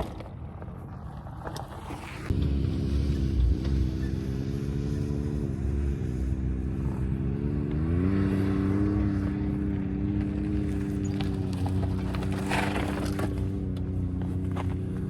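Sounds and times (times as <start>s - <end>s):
vehicle engine running: 2.3s - 15.0s.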